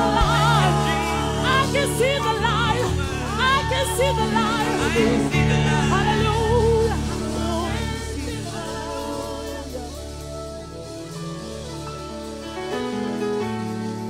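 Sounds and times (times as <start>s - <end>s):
band with steady bass: 0.0s - 14.0s
gospel singers with vibrato: 0.0s - 14.0s.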